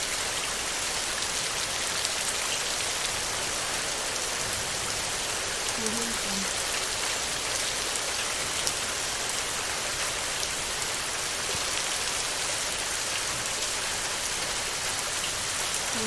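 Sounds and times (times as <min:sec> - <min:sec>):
heavy rain on a tin roof: 0:00.0 - 0:16.0.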